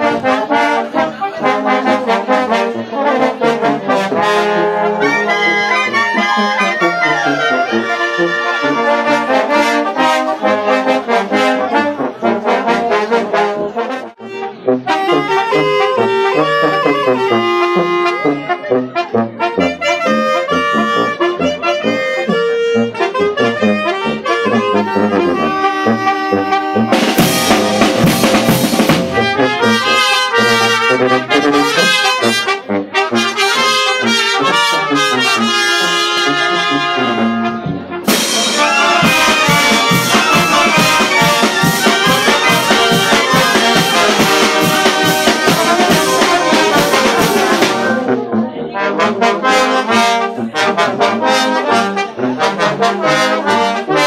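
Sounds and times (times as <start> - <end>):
brass band playing: 0.0 - 54.0.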